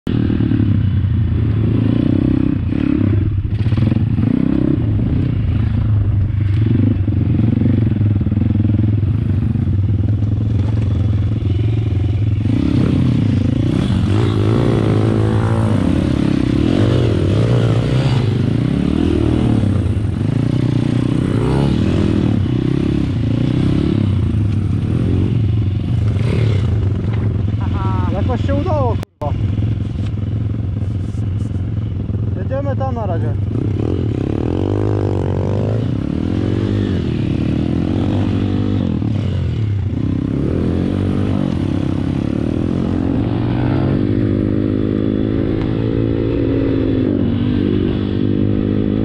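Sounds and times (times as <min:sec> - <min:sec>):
motorcycle engine revving: 0:00.1 - 0:49.0.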